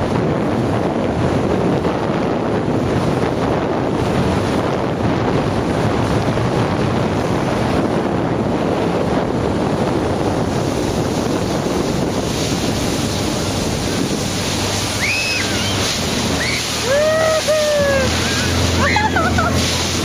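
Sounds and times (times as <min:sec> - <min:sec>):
low engine drone: 0:00.0 - 0:20.0
water hissing and slapping: 0:00.0 - 0:20.0
wind blasting the microphone: 0:00.0 - 0:20.0.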